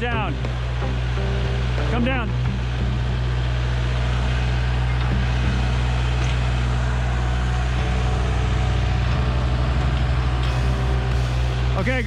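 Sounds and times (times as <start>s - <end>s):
tractor engine humming: 0.0s - 12.0s.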